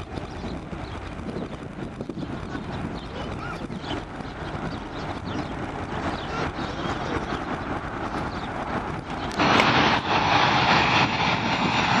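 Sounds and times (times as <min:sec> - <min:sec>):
jet engines rushing: 0:00.0 - 0:12.0
low rumble: 0:00.0 - 0:12.0.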